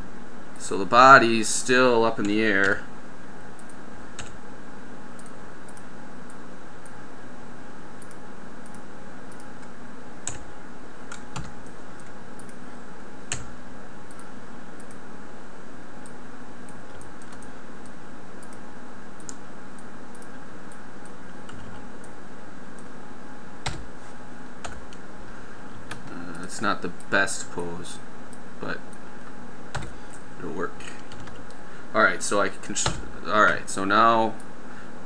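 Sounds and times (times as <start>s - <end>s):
background hum and hiss: 0.0s - 35.0s.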